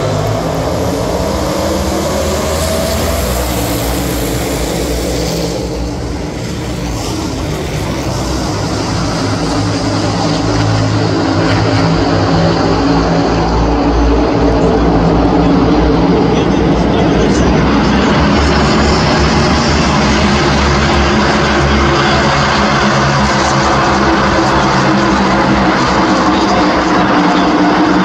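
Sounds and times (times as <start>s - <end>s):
race car engines roaring: 0.0s - 28.0s.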